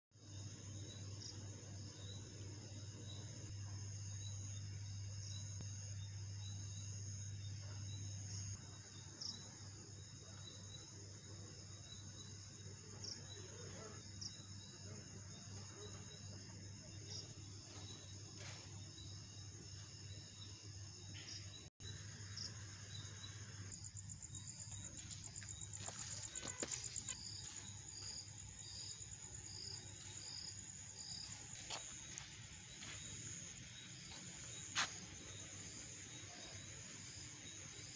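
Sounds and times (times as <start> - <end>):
crickets chirping: 0.2 - 37.9.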